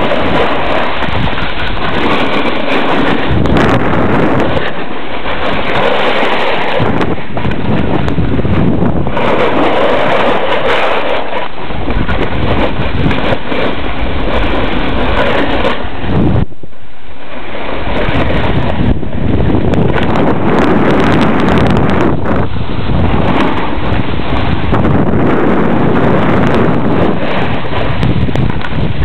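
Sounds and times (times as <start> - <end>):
skis hissing over snow: 0.0 - 29.0
wind buffeting microphone: 0.0 - 29.0.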